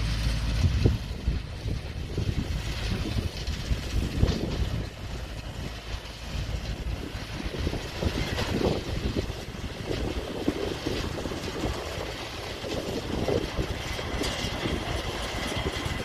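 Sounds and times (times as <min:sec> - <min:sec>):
irregular clatter: 0:00.0 - 0:16.0
tractor engine running: 0:00.0 - 0:16.0.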